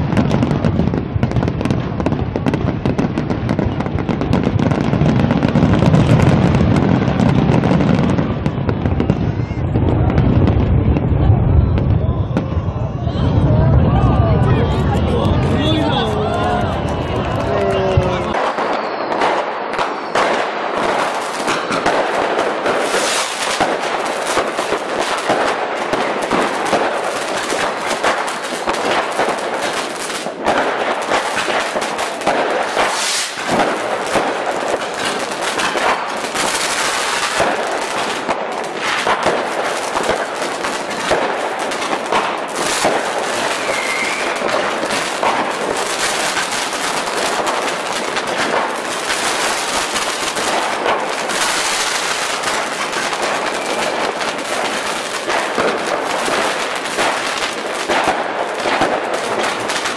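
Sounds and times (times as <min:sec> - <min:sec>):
fireworks crackling and banging: 0:00.0 - 0:59.9.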